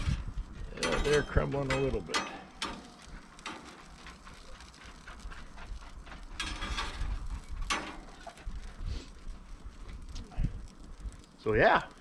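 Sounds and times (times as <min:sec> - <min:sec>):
food clicking on a grill pan: 0:00.0 - 0:12.0.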